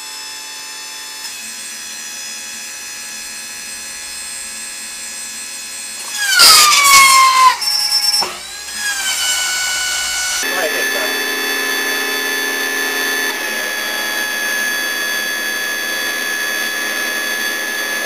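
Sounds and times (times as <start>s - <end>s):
hydraulic pump motor whining: 2.8s - 18.0s.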